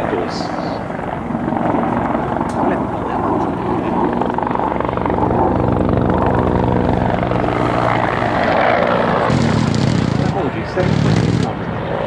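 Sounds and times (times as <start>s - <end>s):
helicopter flying: 0.0s - 12.0s.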